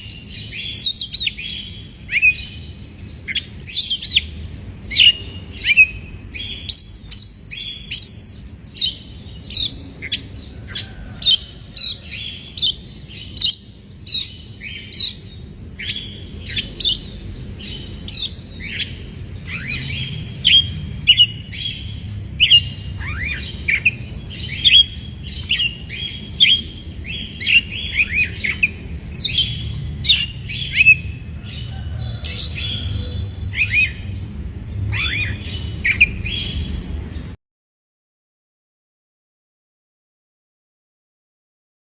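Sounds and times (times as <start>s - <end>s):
bird chirping sharply: 0.0s - 31.2s, 32.2s - 36.8s.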